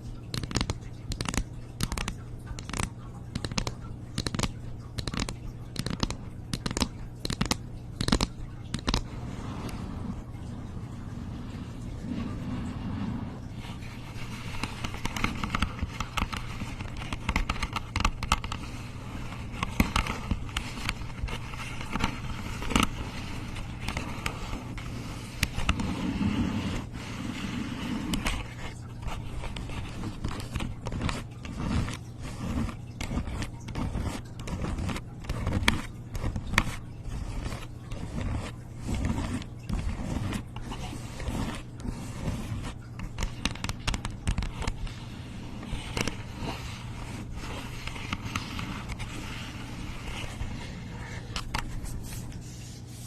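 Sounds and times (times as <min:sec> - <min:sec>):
close scratching and tapping: 0:00.0 - 0:53.0.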